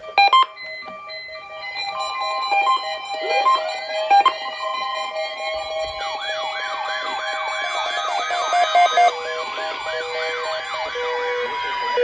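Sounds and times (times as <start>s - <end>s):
electronic siren alert yelping: 2.0s - 12.0s.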